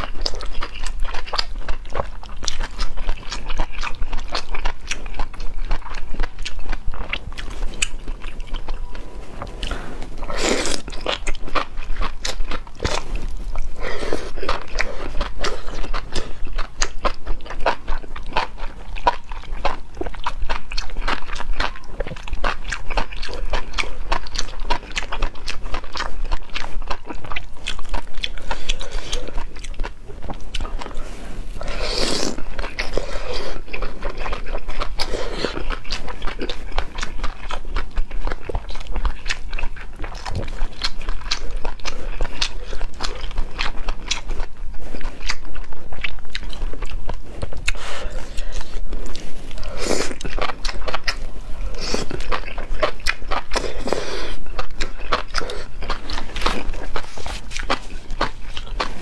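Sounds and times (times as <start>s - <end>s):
close chewing with wet mouth clicks: 0.0s - 59.0s.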